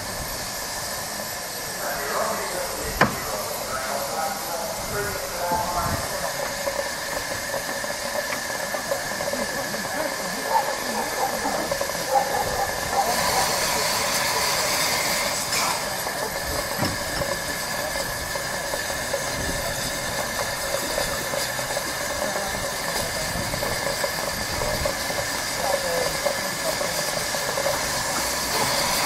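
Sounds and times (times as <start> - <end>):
steam hissing from locomotive: 0.0 - 29.0.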